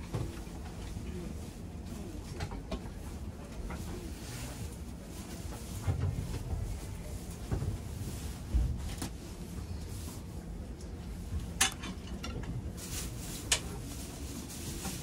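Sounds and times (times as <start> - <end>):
train car rumble: 0.0 - 15.0.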